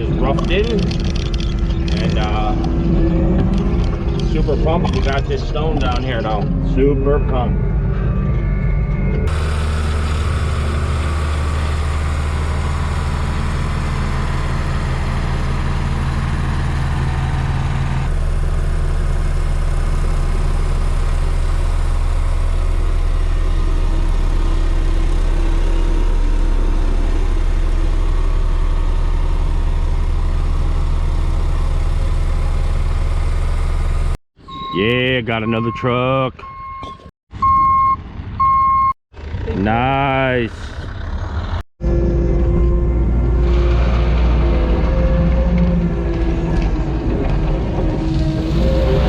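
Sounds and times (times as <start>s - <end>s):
diesel engine droning: 0.0s - 49.0s.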